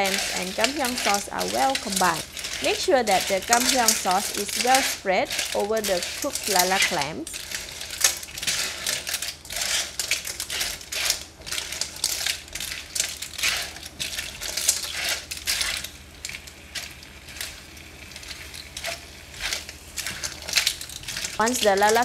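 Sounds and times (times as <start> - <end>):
clam shells clattering in a wok: 0.0 - 22.0.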